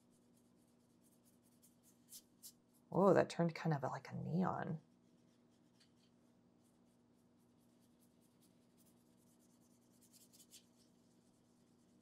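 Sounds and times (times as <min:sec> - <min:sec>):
paintbrush scratching on paper: 0:00.0 - 0:03.0, 0:04.8 - 0:12.0
faint low hum: 0:00.0 - 0:12.0.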